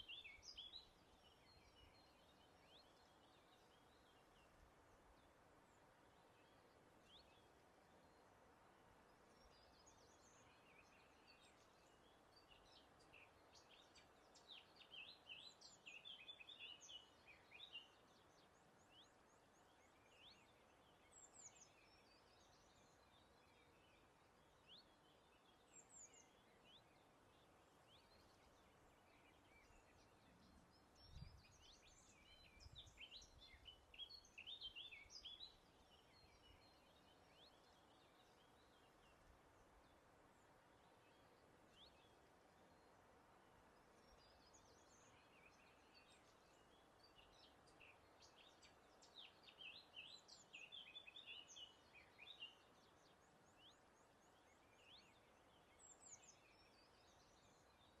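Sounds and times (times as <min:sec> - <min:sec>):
birds chirping and twittering: 0:00.0 - 0:58.0
soft breeze hiss: 0:00.0 - 0:58.0.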